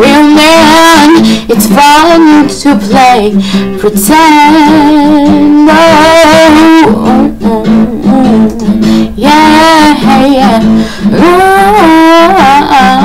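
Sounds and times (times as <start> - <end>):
strummed guitar: 0.0 - 13.0
woman singing: 0.0 - 13.0.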